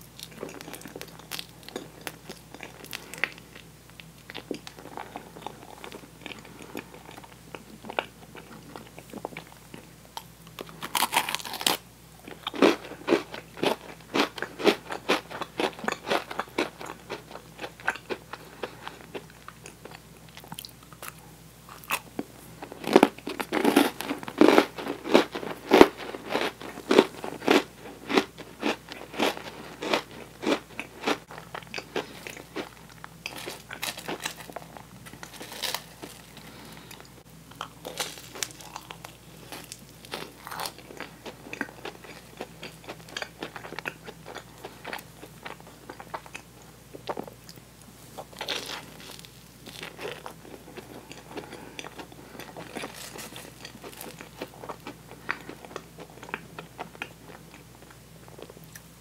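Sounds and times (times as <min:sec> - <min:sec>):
crunching cookie: 0:00.0 - 0:58.8
soft sticky chewing: 0:00.0 - 0:58.9.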